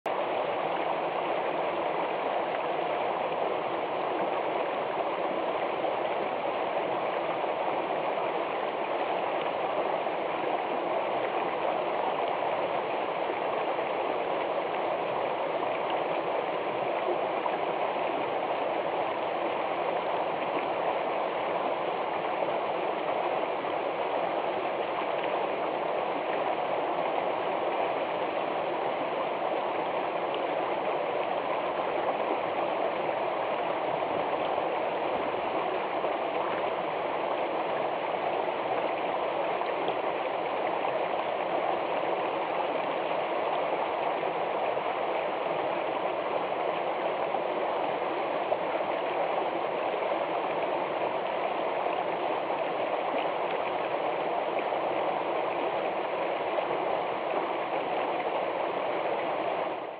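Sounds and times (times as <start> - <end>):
stream rushing over rocks: 0.1 - 59.9.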